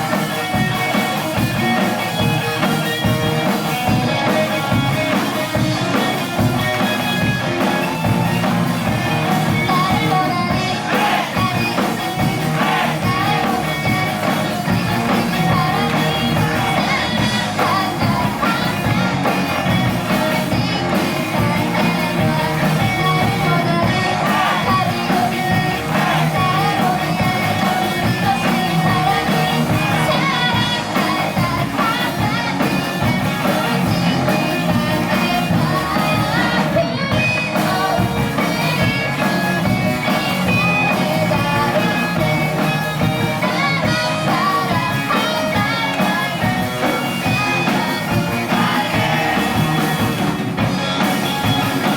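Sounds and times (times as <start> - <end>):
person singing: 0.0 - 51.9
rock band playing live: 0.0 - 51.9.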